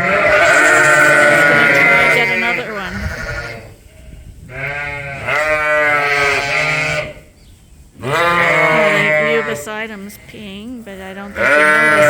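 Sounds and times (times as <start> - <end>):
sheep bleating: 0.0 - 3.8, 4.5 - 7.3, 8.0 - 12.0.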